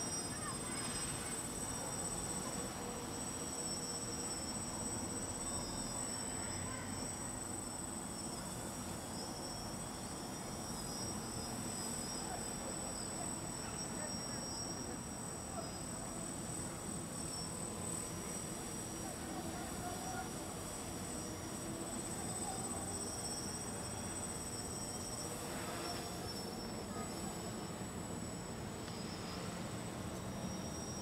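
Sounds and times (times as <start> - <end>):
constant high-pitched tone: 0.0 - 31.0
quadcopter motors buzzing: 0.0 - 31.0.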